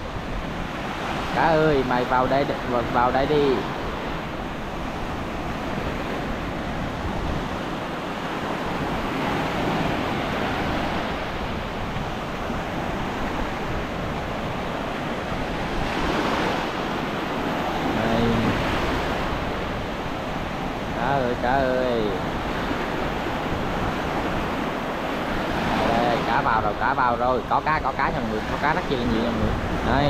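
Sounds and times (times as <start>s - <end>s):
sea surf washing onto beach: 0.0s - 30.0s
wind buffeting microphone: 0.0s - 30.0s.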